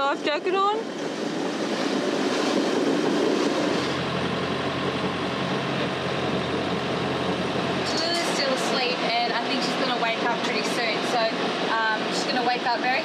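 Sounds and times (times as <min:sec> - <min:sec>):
sailboat cabin hum and rushing: 0:00.0 - 0:13.0.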